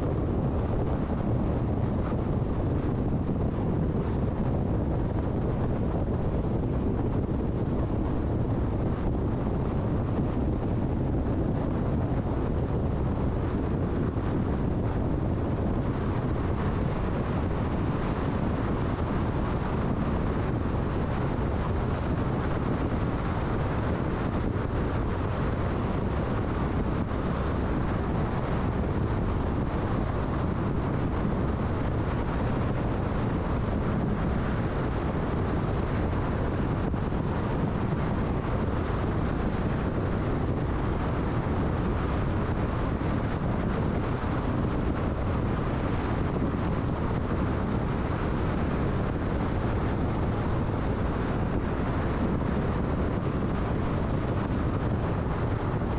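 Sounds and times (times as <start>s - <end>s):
wind noise: 0.0s - 55.9s.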